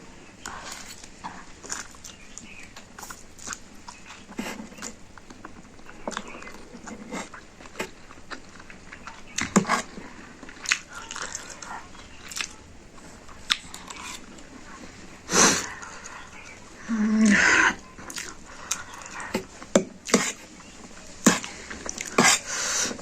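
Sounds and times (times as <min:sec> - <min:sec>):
person chewing noodles: 0:00.3 - 0:23.0.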